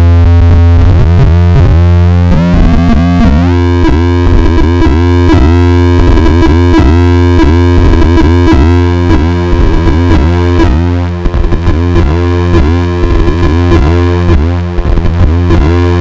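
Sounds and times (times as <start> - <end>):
distorted buzzing synthesizer drone: 0.0 - 16.0
steady low bass: 0.0 - 16.0.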